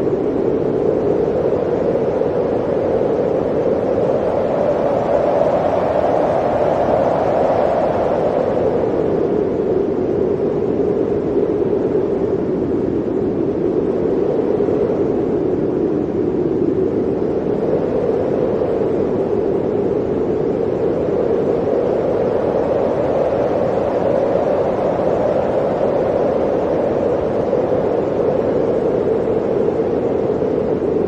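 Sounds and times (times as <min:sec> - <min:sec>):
blizzard wind blowing: 0:00.0 - 0:31.0.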